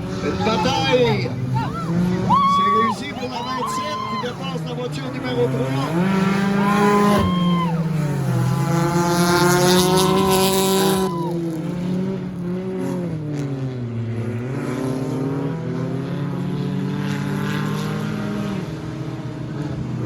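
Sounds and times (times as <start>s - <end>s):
stock car engines racing: 0.0s - 20.0s.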